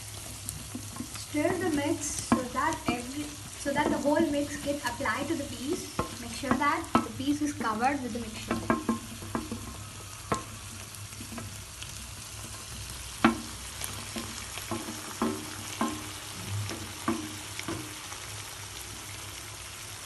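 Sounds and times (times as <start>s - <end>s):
chicken sizzling in a pan: 0.0s - 20.0s
spatula knocking and scraping pan: 0.3s - 11.6s, 12.3s - 18.1s.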